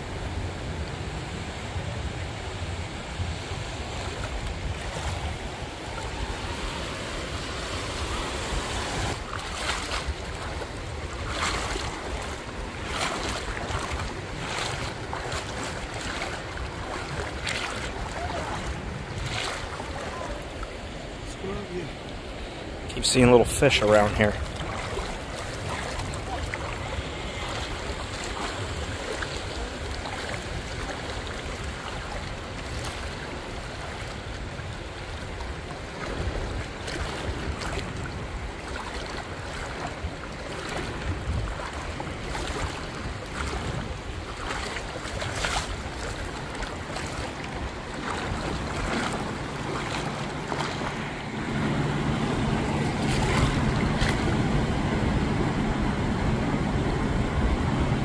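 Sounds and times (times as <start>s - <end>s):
wind on microphone: 0.0s - 21.5s, 24.2s - 58.0s
motorboat engine hum: 0.0s - 58.0s
sea water lapping: 0.0s - 58.0s.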